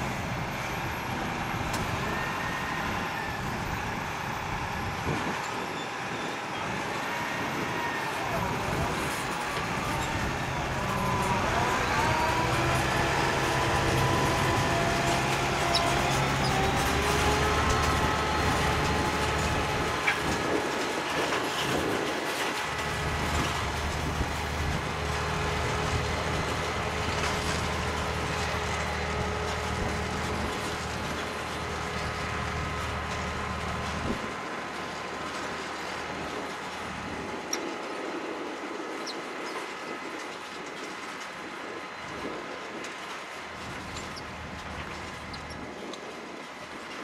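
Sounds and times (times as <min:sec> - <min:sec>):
steady whining tones: 0:00.0 - 0:38.9
tractor diesel engine under load: 0:00.0 - 0:47.0.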